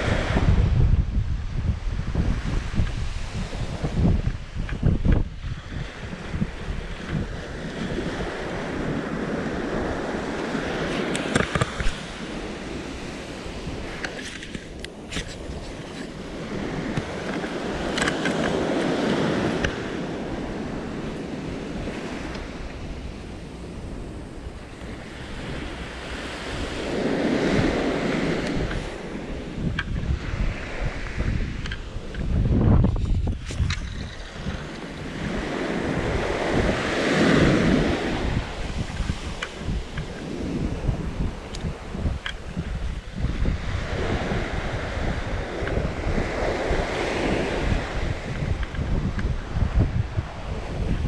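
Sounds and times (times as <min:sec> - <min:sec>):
ocean waves breaking on beach: 0:00.0 - 0:51.0
wind rumbling on microphone: 0:00.0 - 0:51.0.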